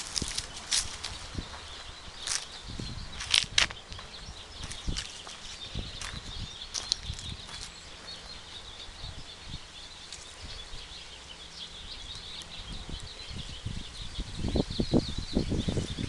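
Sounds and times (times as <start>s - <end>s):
high chirping chorus: 0.0s - 16.0s.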